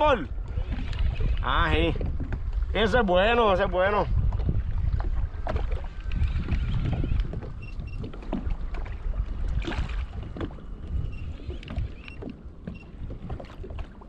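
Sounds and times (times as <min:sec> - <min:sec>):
water slapping against kayak hull: 0:00.0 - 0:14.0
wind buffeting microphone: 0:00.0 - 0:14.0.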